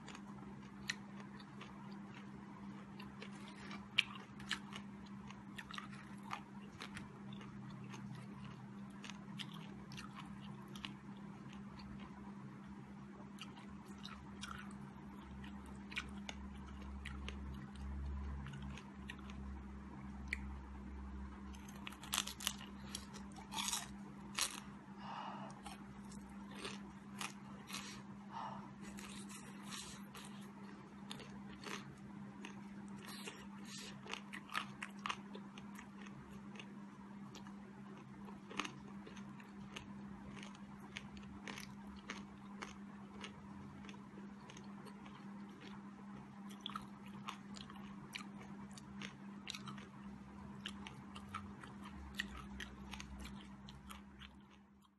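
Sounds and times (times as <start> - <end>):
crunching and chewing fried food: 0.0 - 54.9
steady low hum: 0.0 - 54.9.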